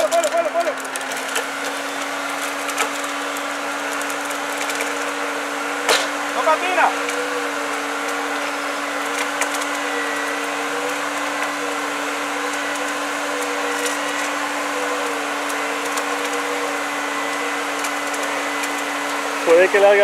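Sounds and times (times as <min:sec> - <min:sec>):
vehicle mechanical whine: 0:00.0 - 0:20.0.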